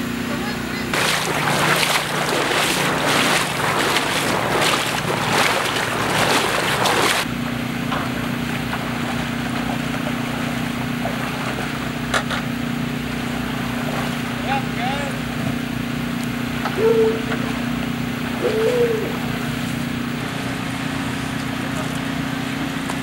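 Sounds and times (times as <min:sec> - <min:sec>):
vehicle engine idling: 0:00.0 - 0:23.0
wading through floodwater splashing: 0:00.9 - 0:23.0.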